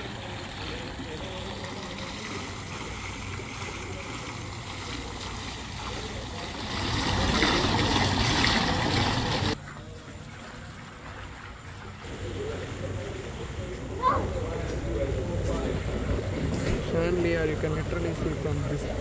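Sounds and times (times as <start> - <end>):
fountain water splashing into basin: 0.0 - 16.4.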